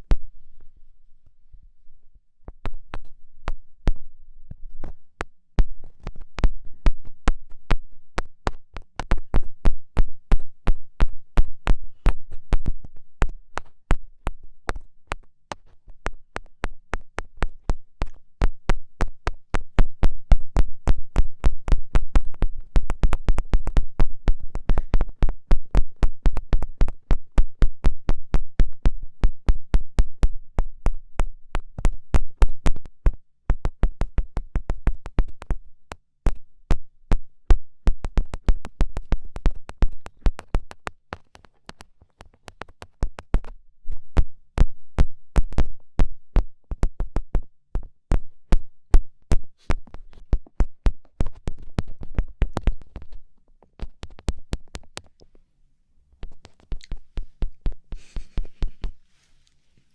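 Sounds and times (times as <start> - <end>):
fingertip taps: 4.8 - 55.4, 56.2 - 59.0.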